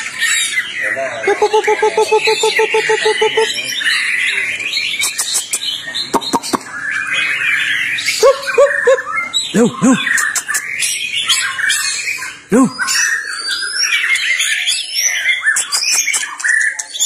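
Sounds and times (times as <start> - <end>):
bird singing chirps and whistles: 0.0 - 17.0
lower arching bird notes: 0.5 - 15.8.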